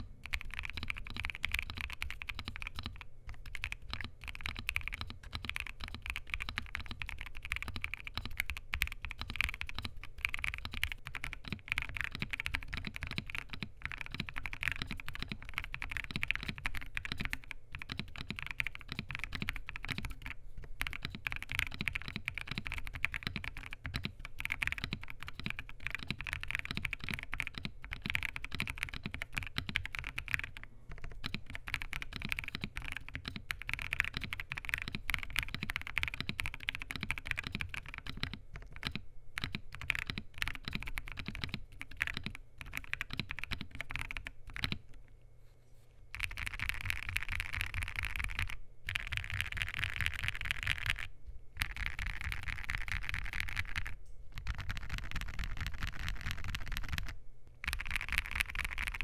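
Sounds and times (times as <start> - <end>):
mechanical keyboard typing: 0.0 - 44.9, 46.1 - 59.0.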